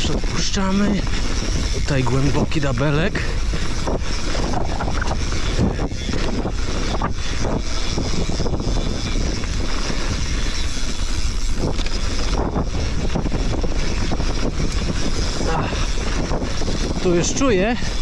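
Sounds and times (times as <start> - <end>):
bike knocks and rattles: 0.0 - 18.0
tyres on dirt: 0.0 - 18.0
wind rushing on microphone: 0.0 - 18.0.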